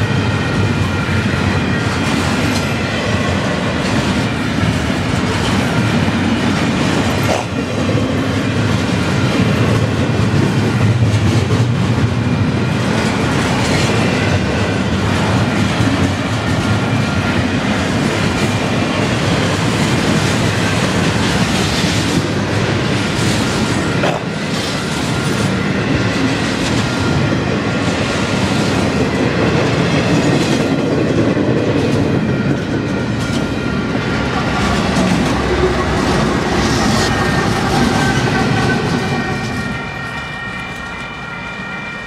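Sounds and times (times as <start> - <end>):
clickety-clack over rail joints: 0.0 - 41.2
train wheels rumbling on rails: 0.0 - 42.0.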